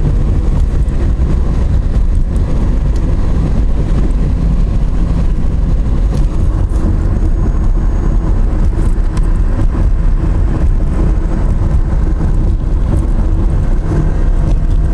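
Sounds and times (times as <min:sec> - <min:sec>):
vehicle engine and road noise: 0:00.0 - 0:14.9.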